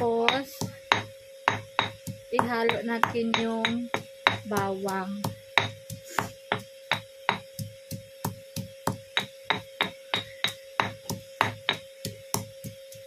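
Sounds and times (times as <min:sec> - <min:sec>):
pestle pounding in stone mortar: 0:00.0 - 0:13.0
steady hum: 0:00.0 - 0:13.0.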